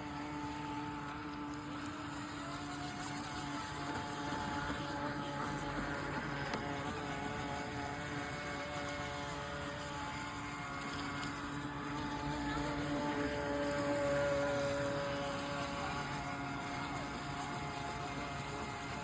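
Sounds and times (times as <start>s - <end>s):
model boat motor whining: 0.0s - 19.0s.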